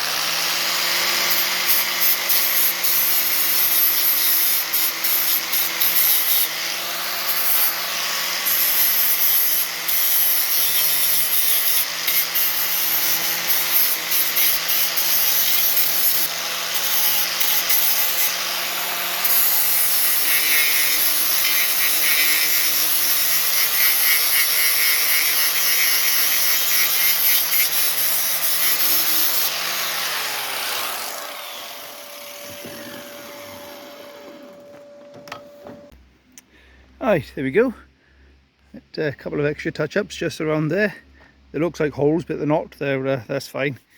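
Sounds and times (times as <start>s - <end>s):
angle grinder grinding steel: 0.0s - 36.0s.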